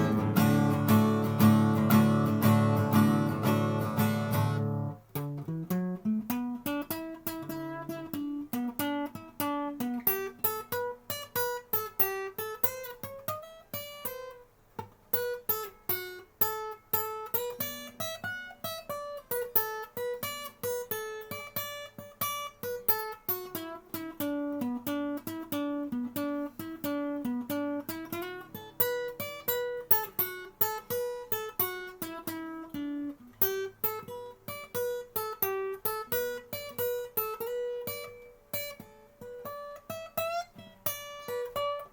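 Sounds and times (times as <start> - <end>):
acoustic guitar picked notes: 0.0 - 41.9.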